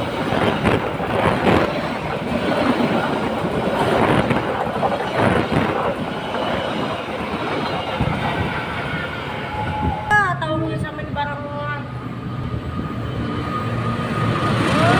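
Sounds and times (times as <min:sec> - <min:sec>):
train wheels rushing on rails: 0:00.0 - 0:14.9.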